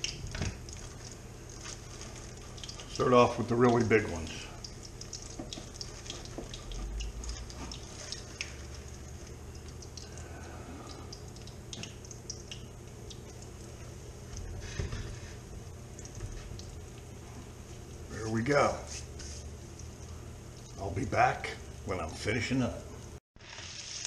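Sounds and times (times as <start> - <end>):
fish frying in butter: 0.0 - 22.3, 23.0 - 24.0.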